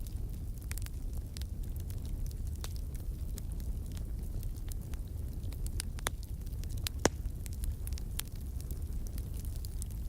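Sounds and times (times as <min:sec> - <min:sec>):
fire crackling and popping: 0:00.0 - 0:10.0
low fire rumble: 0:00.0 - 0:10.0.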